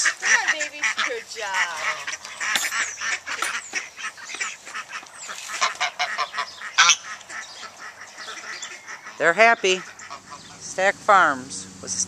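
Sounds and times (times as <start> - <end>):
geese and ducks calling: 0.0 - 12.0.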